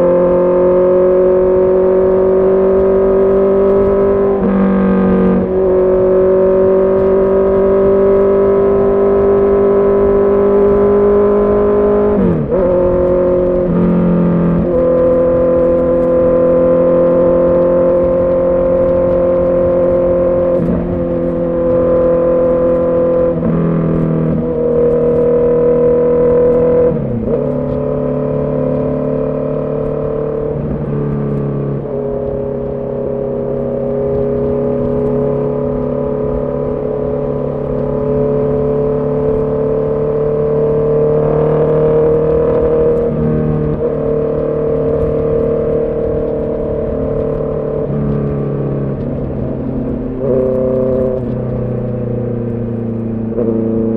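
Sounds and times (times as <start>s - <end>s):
motorcycle engine shifting gears: 0.0s - 53.9s.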